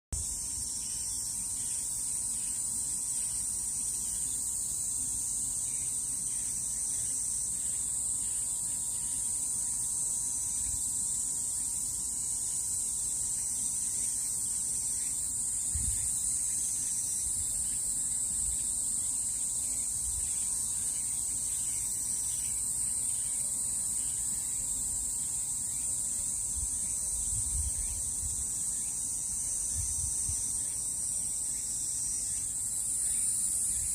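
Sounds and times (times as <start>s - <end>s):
insects buzzing: 0.2s - 33.9s.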